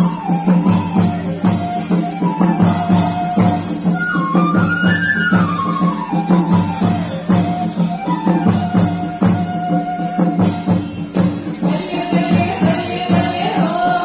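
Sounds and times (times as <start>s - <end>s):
folk music melody: 0.0s - 14.0s
steady percussion beat: 0.0s - 14.0s.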